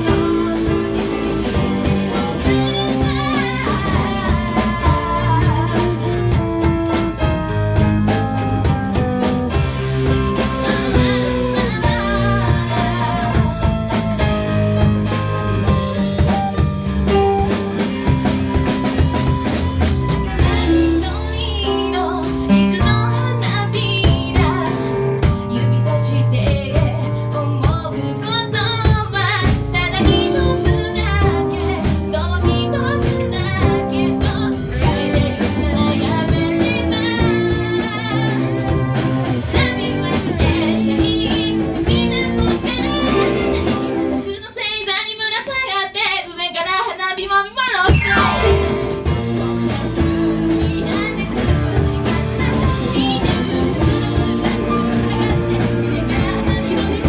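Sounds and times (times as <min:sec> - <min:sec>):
person singing: 0:00.0 - 0:07.4, 0:08.1 - 0:45.2, 0:47.5 - 0:57.0
band playing pop-rock song: 0:00.0 - 0:44.4, 0:47.9 - 0:57.0.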